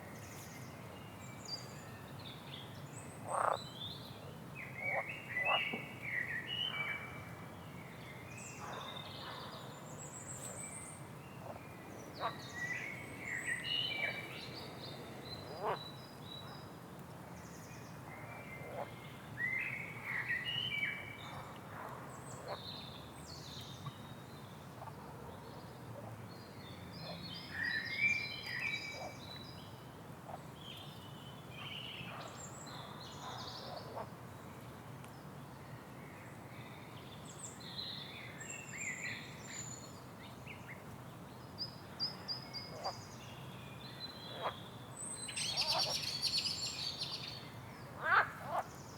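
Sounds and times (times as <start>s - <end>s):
low background noise: 0.0s - 48.9s.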